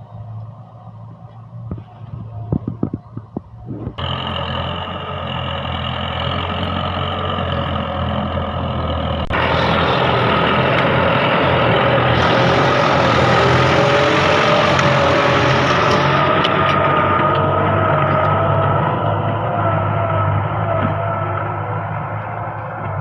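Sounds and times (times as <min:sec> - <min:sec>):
tractor engine running: 0:00.0 - 0:23.0
engine knocks: 0:01.2 - 0:23.0.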